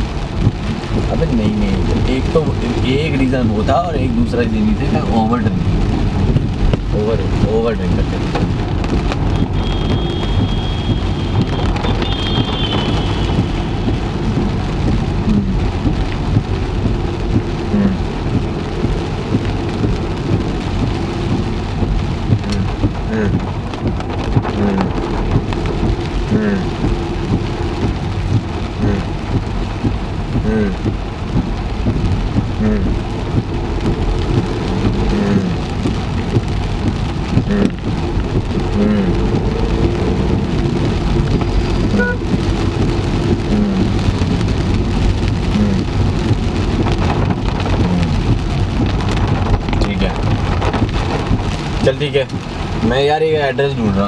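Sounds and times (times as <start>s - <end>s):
heavy rain on a car: 0.0s - 54.0s
soft regular beat: 8.0s - 52.6s.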